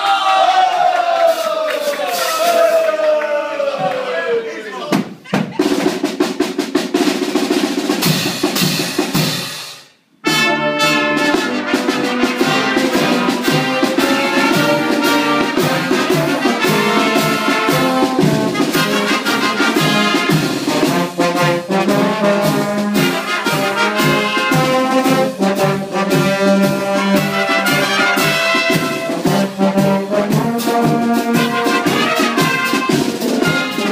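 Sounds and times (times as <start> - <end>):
brass band music: 5.6 - 33.9.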